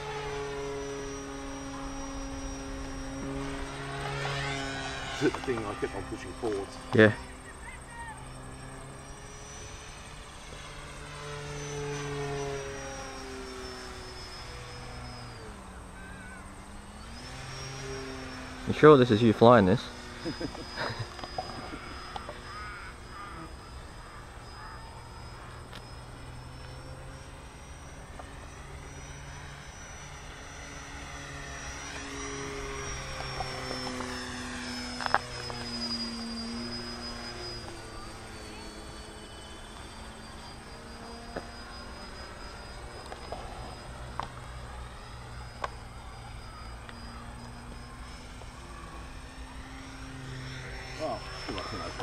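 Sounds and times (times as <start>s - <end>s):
model airplane motor buzzing: 0.0s - 52.0s.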